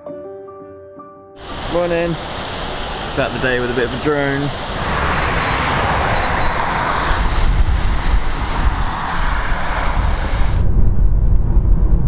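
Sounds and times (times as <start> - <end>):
wind buffeting microphone: 1.5 - 12.0.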